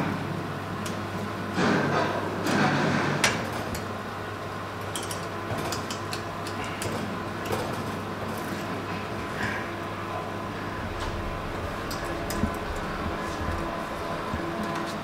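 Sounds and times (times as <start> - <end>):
oven hum and hiss: 0.0 - 15.0.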